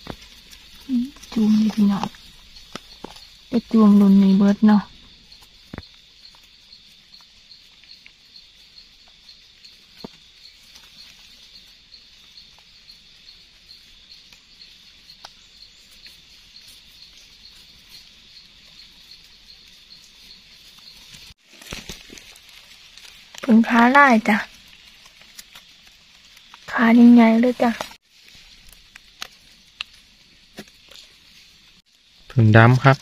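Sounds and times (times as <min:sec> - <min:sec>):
insect trilling: 0:00.0 - 0:33.0.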